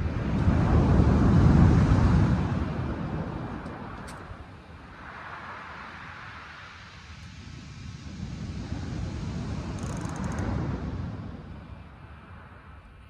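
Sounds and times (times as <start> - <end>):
surf washing: 0.0 - 12.7
wind buffeting microphone: 0.0 - 13.0.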